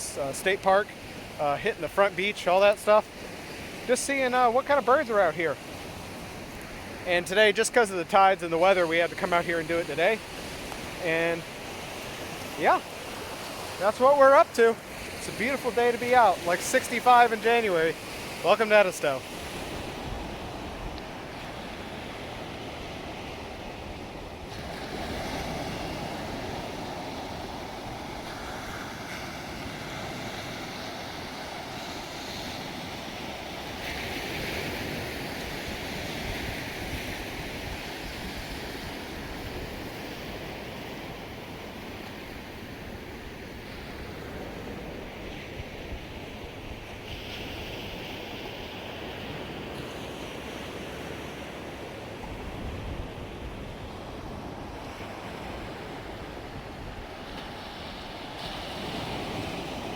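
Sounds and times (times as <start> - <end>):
surf waves washing in: 0.0 - 59.9.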